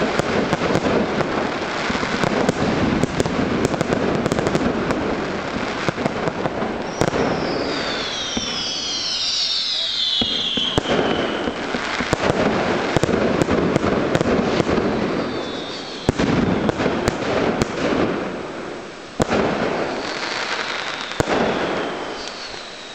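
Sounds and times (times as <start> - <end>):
fireworks whistles falling in pitch: 0.0 - 18.0, 19.2 - 22.9
fireworks bangs: 0.0 - 22.9
fireworks crackling: 0.0 - 22.9.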